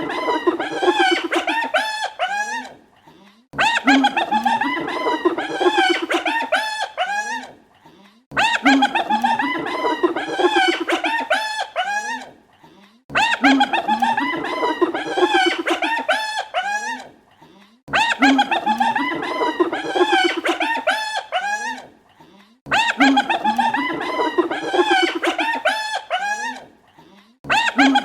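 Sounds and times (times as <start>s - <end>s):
hyena laughing calls: 0.0s - 2.8s, 3.6s - 7.6s, 8.4s - 12.4s, 13.1s - 17.1s, 17.9s - 21.9s, 22.7s - 26.7s, 27.5s - 28.0s.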